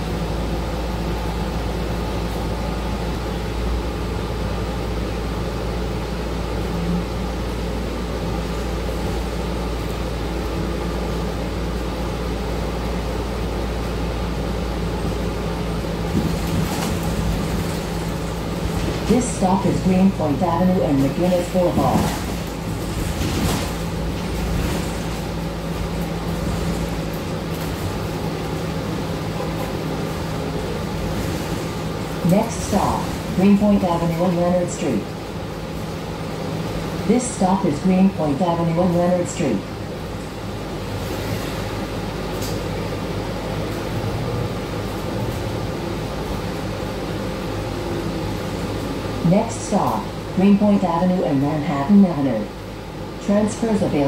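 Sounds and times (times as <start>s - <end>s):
bus engine and ventilation hum: 0.0s - 54.0s.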